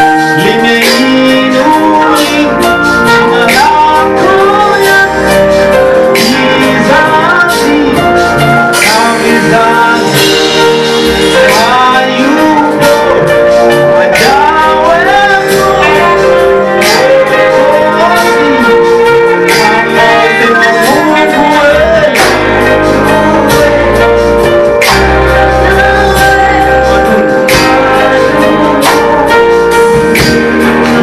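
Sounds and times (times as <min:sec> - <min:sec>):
keyboard chords accompaniment: 0:00.0 - 0:31.0
man singing into microphone: 0:00.0 - 0:31.0.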